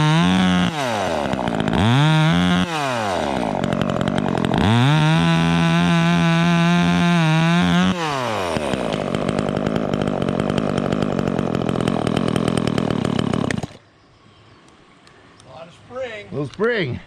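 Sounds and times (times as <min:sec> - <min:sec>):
chainsaw revving and idling: 0:00.0 - 0:13.8.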